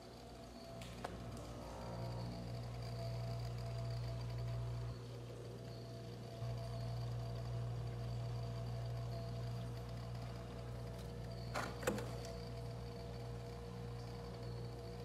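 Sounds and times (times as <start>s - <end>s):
faint whining tones: 0.0s - 15.0s
freezer hum: 0.0s - 15.0s.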